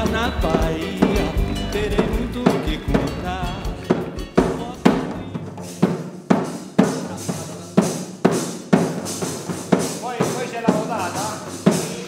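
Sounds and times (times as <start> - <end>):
drumming steady beat: 0.0 - 12.0.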